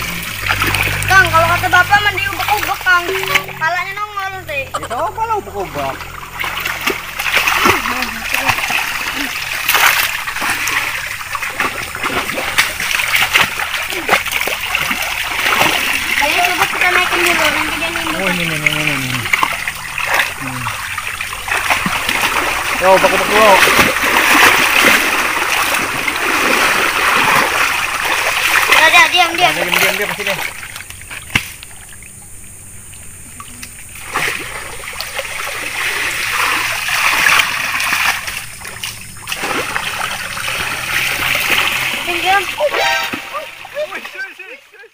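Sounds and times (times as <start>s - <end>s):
muddy water splashing: 0.0s - 44.9s.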